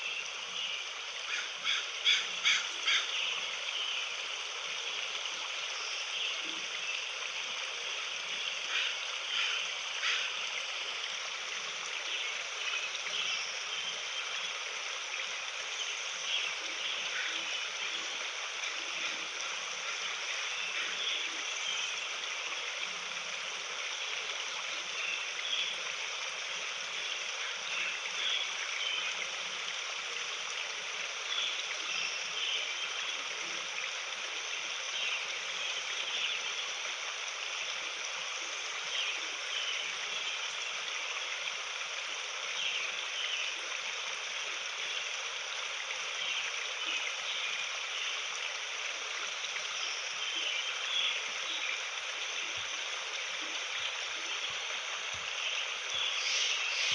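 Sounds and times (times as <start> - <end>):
stream running water: 0.0 - 56.9.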